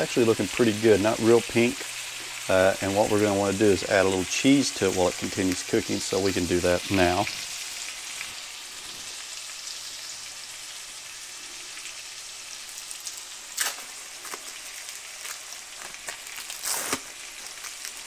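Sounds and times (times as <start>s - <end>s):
meat and onions sizzling: 0.0s - 18.0s.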